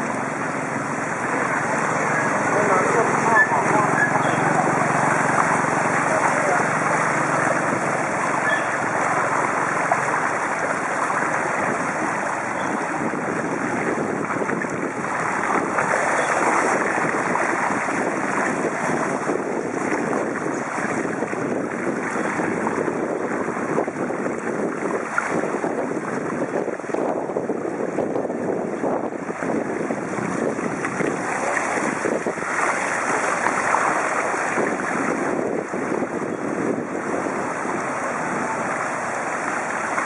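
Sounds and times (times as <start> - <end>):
bicycle tyres through water: 0.0 - 40.0
wind on microphone: 0.0 - 40.0.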